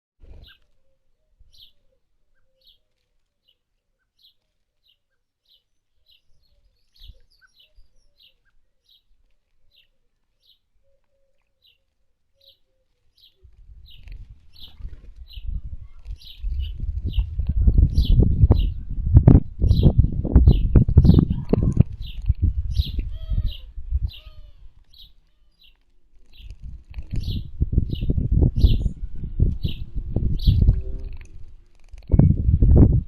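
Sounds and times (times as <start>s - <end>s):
small bird chirping: 0.3s - 32.9s.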